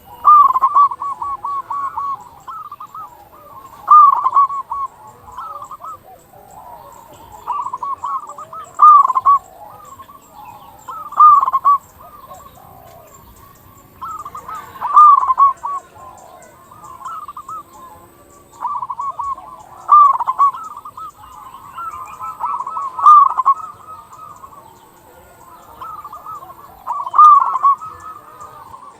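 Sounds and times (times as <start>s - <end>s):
dove cooing: 0.0s - 28.9s.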